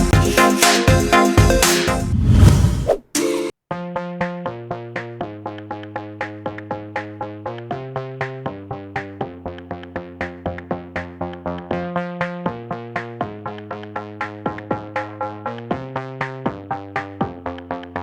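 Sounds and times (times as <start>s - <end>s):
electronic music with plucked synth: 0.0s - 2.1s, 3.1s - 18.0s.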